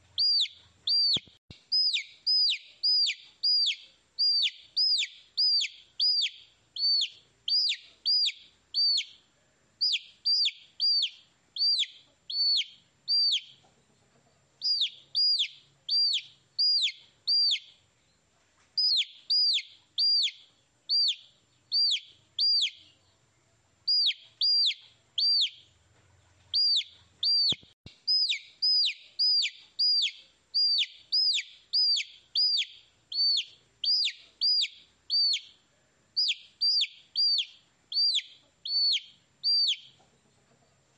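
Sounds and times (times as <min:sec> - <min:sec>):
baby chicks peeping: 0:00.0 - 0:17.9, 0:18.7 - 0:35.6, 0:36.2 - 0:40.9.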